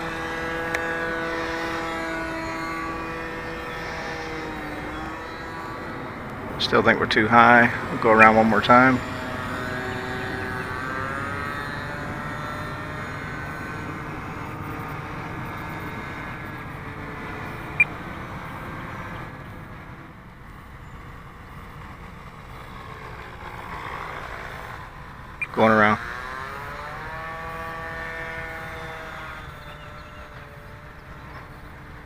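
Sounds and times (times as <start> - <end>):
model airplane engine: 0.0 - 32.0.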